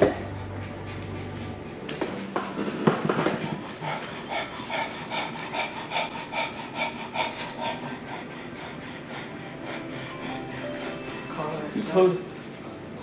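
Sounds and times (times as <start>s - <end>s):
small dog panting: 0.0s - 12.6s.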